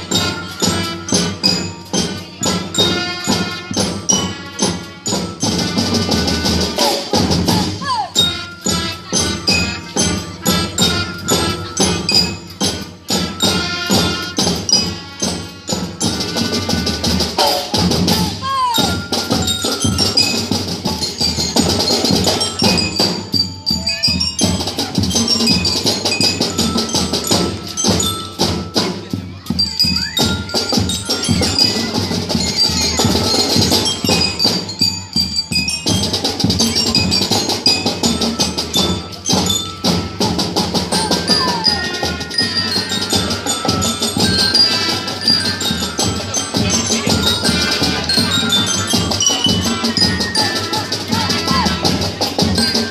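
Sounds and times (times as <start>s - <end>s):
bells and marimba ringing: 0.0s - 52.9s
drums: 0.0s - 52.9s
marching band playing: 0.0s - 52.9s.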